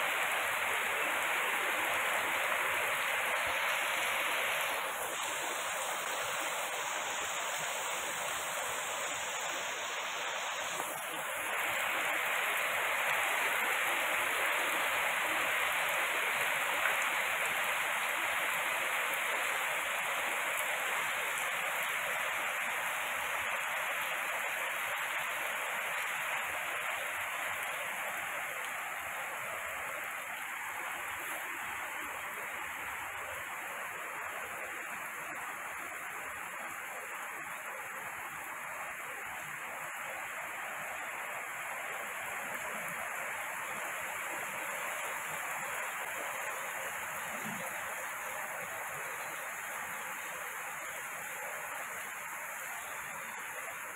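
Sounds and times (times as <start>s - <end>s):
heavy rain on paving and plants: 0.0s - 53.9s
water running across lane: 0.0s - 53.9s.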